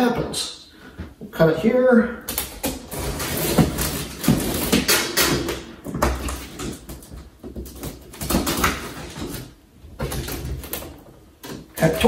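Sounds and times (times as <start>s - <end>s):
cardboard rustling and creaking: 2.3s - 12.0s.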